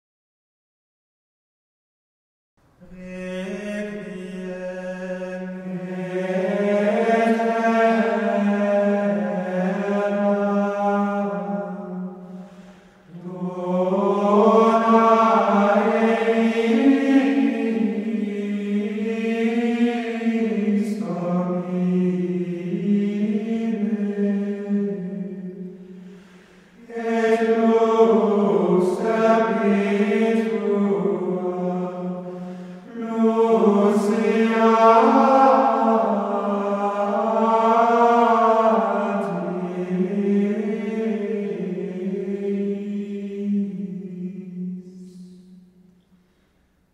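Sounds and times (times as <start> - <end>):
monks singing plainchant: 2.8 - 45.6.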